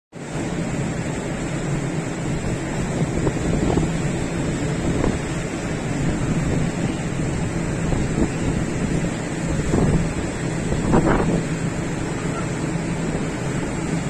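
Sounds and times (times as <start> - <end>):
water wash: 0.2 - 14.0
low hum: 0.3 - 14.0
wind buffeting microphone: 0.4 - 14.0.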